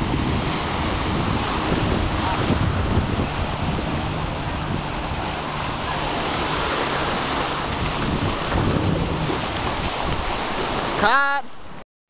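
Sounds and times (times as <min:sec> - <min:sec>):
wind buffeting microphone: 0:00.0 - 0:11.0
waves breaking: 0:00.0 - 0:11.8.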